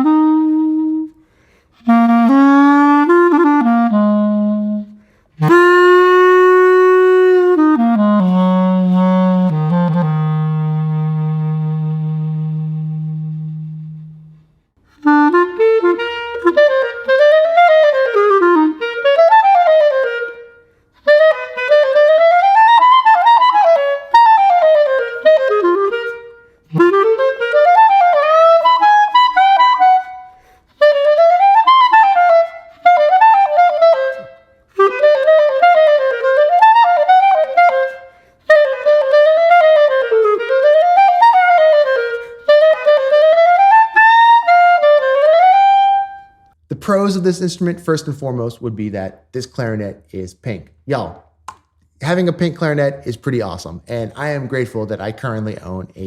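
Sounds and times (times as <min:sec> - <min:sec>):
clarinet playing quick runs: 0:00.0 - 0:01.2, 0:01.8 - 0:46.5.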